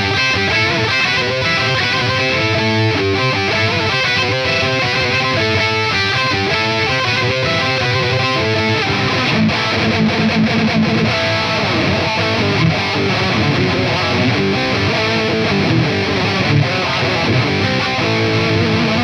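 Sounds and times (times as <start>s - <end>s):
distorted electric guitar: 0.0s - 19.0s.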